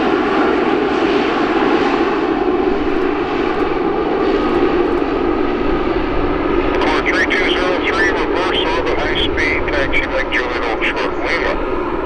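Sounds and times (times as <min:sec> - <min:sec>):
airliner engines running: 0:00.0 - 0:12.0.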